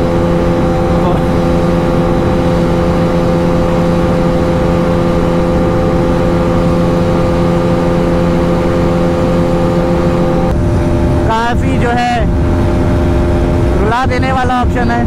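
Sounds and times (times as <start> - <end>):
motorcycle engine at high speed: 0.0 - 15.0
wind rumble on microphone: 0.0 - 15.0.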